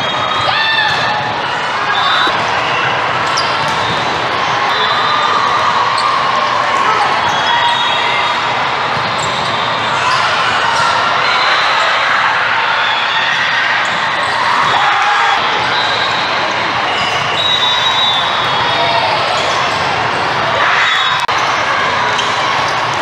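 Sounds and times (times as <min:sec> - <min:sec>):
echoing crowd voices: 0:00.0 - 0:23.0.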